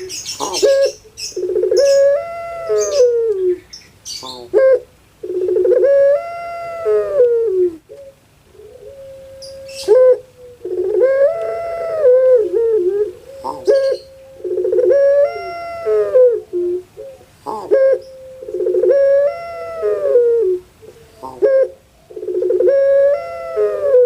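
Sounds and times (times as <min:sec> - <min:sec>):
dove crowing coo: 0:00.0 - 0:24.0.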